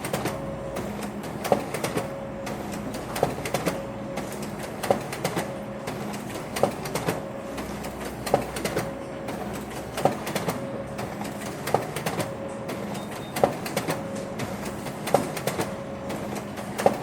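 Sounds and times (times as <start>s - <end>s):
mechanical hum: 0.0s - 17.0s
printer clacking: 0.0s - 17.0s.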